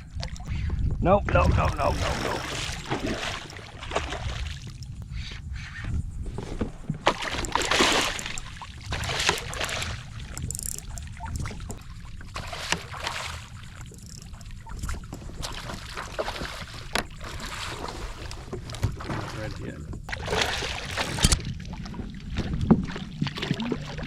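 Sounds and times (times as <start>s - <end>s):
water splashing and sloshing: 0.0s - 24.0s
wind on microphone: 0.0s - 24.0s.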